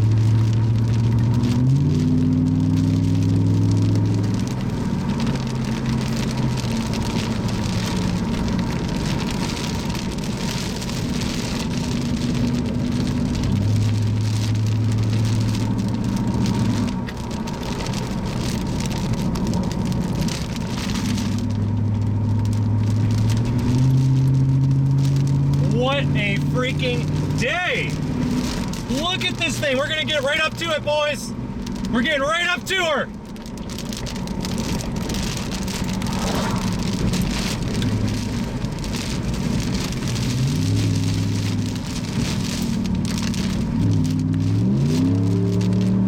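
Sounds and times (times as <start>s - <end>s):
car engine: 0.0s - 46.0s
rain and wet road hiss: 0.0s - 46.0s.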